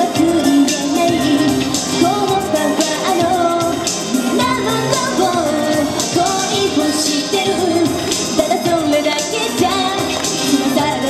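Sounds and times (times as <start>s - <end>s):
pop backing music with beat: 0.0s - 11.0s
woman singing into microphone: 0.0s - 11.0s.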